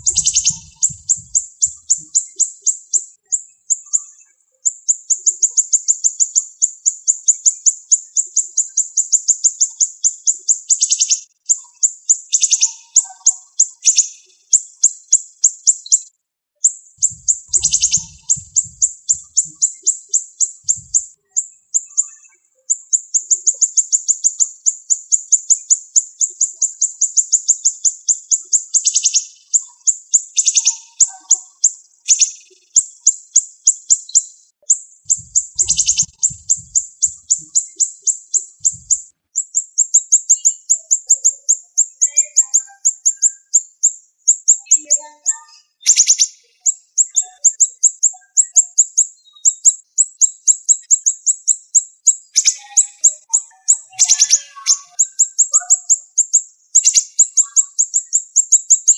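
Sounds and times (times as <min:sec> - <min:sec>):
nuthatch calling sharp chips: 0:00.0 - 0:03.0, 0:04.7 - 0:16.0, 0:17.0 - 0:22.1, 0:22.7 - 0:34.2, 0:35.1 - 0:58.9.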